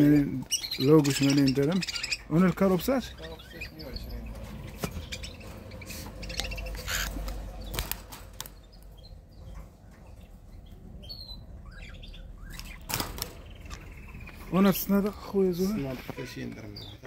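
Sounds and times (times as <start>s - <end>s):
cockatiels chirping: 0.0s - 14.8s.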